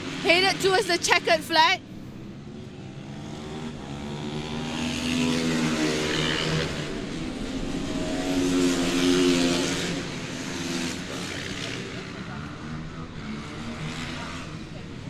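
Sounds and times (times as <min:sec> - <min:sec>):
racing motorcycles revving past: 0:02.2 - 0:15.0.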